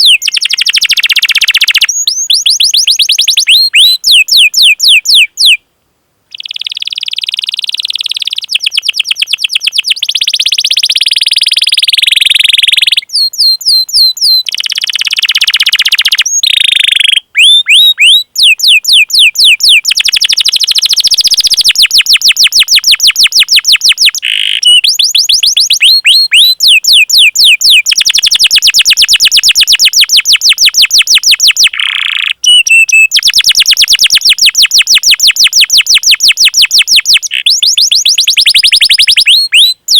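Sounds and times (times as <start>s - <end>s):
canary call notes: 0.0s - 5.6s, 6.3s - 39.9s
canary song trills: 0.0s - 5.6s, 6.3s - 39.9s.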